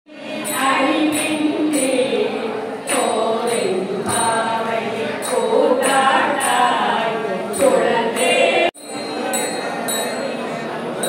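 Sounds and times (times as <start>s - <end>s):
voices singing a chant: 0.1s - 11.0s.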